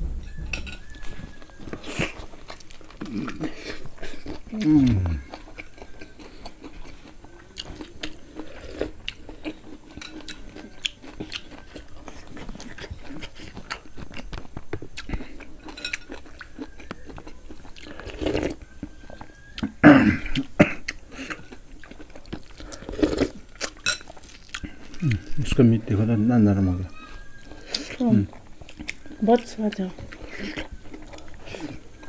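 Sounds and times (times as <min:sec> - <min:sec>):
close chewing and crunching: 0:00.3 - 0:32.0.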